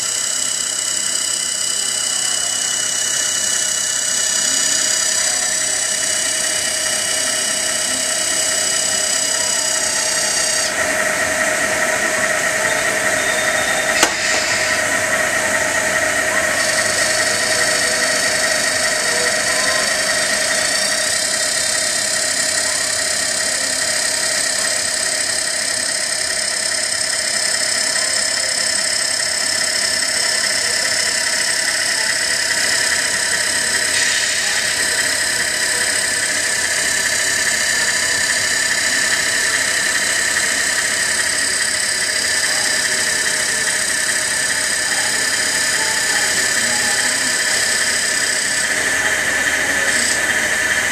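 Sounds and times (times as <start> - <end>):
high-pitched motor whine: 0.0 - 50.9.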